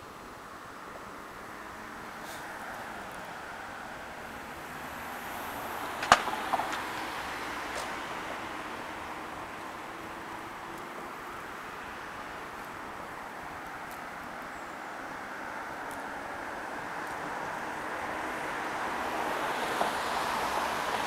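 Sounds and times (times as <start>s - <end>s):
distant traffic hum: 0.0s - 21.0s.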